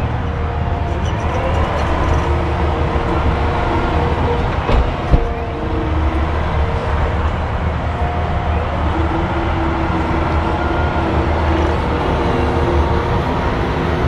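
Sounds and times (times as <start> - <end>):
excavator diesel engine running: 0.0 - 14.0
hydraulics whining: 0.0 - 14.0.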